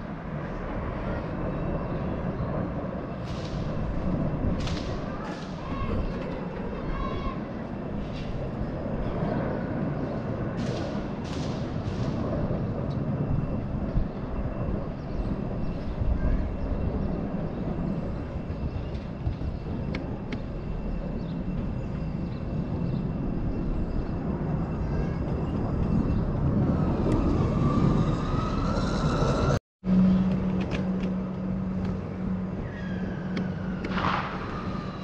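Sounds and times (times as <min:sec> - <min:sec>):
military aircraft flying over: 0:00.0 - 0:35.0.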